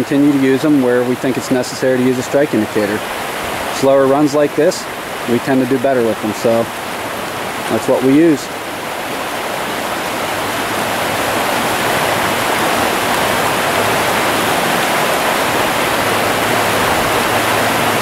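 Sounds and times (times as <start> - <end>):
stream flowing over rocks: 0.0 - 18.0.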